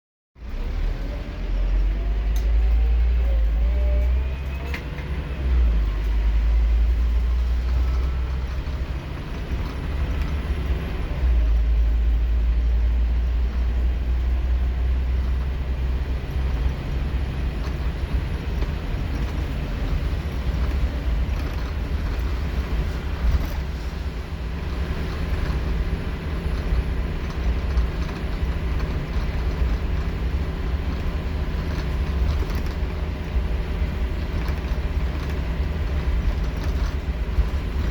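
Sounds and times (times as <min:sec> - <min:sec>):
bus diesel engine drone: 0:00.4 - 0:37.9
road noise: 0:00.4 - 0:37.9.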